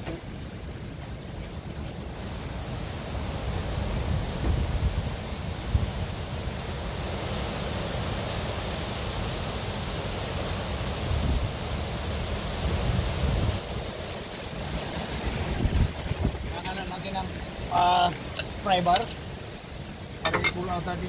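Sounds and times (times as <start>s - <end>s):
wind buffeting microphone: 0.0s - 8.1s, 10.8s - 21.0s.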